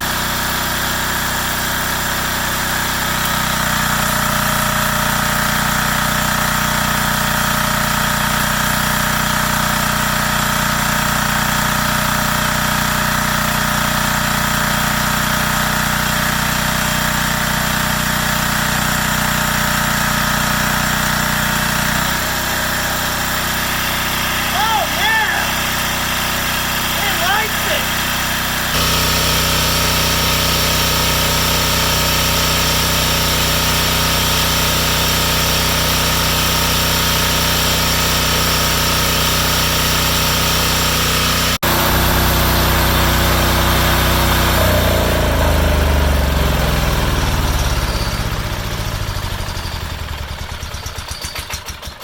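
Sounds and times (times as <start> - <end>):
diesel engine running generator: 0.0 - 52.0.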